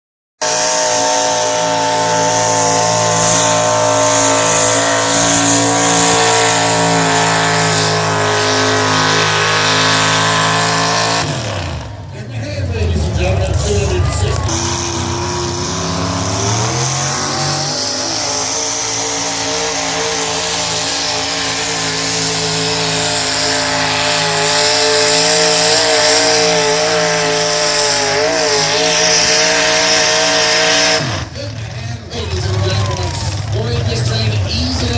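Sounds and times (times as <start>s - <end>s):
engine droning at high revs: 0.4s - 34.9s.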